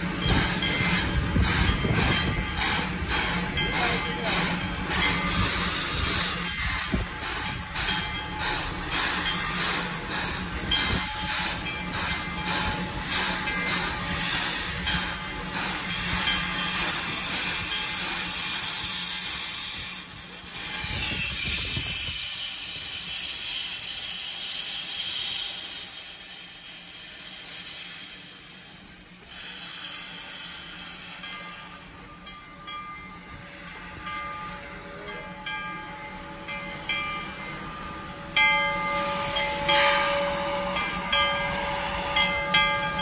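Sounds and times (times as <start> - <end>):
steam locomotive hissing: 0.0 - 43.0.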